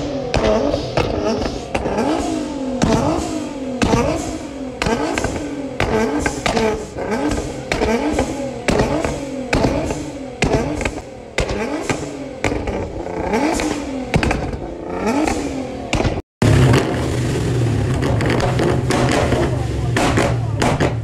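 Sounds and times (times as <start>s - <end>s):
car engine deep rumble: 0.0s - 21.0s
car engine revving: 0.0s - 21.0s
exhaust pops and bangs: 0.1s - 21.0s.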